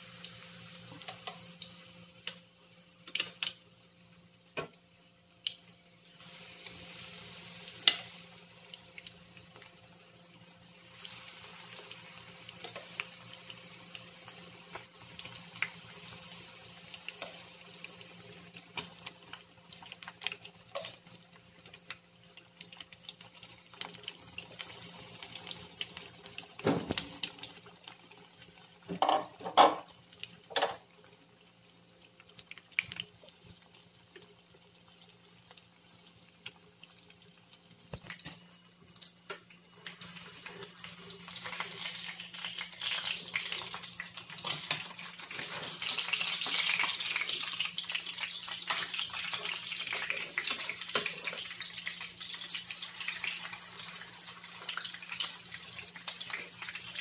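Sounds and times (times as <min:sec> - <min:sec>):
chicken frying in oil: 0:00.0 - 0:57.0.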